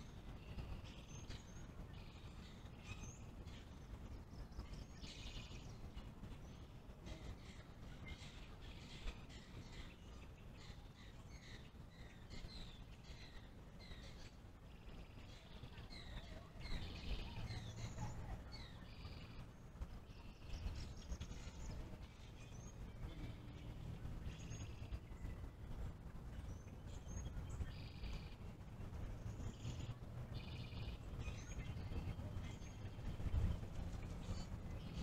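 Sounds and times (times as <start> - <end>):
distant road traffic rumble: 0.0 - 35.0
small birds chirping and trilling: 0.0 - 35.0.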